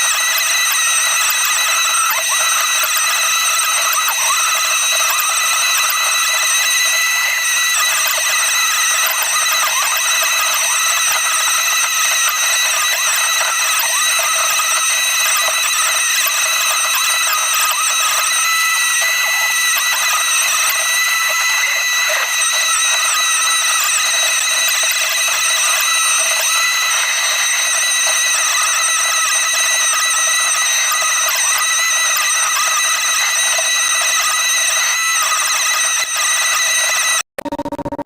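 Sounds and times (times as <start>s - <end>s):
high-pitched mechanical whine: 0.0s - 38.0s.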